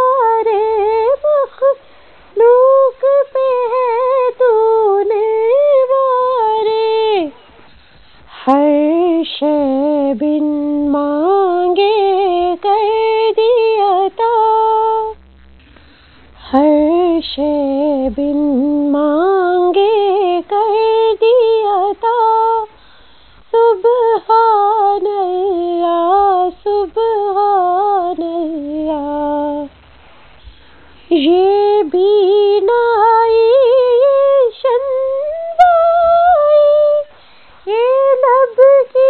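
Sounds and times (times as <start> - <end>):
woman singing unaccompanied: 0.0 - 7.5, 8.3 - 15.2, 16.4 - 22.8, 23.4 - 29.7, 31.0 - 39.0.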